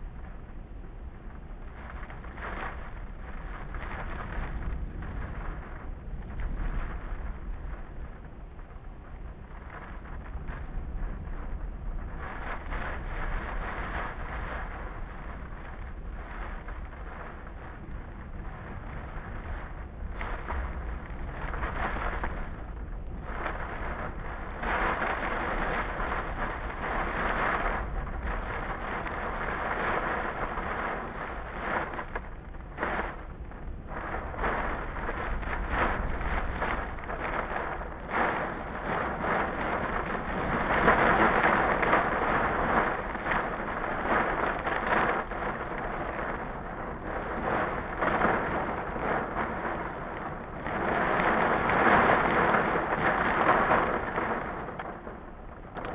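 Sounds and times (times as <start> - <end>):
hail and rain drumming on car roof: 9.7 - 55.9.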